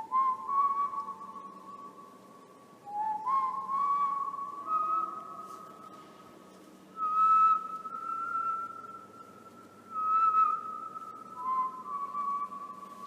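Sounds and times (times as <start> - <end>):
high whistle-like tone: 0.0 - 6.0, 7.0 - 13.0.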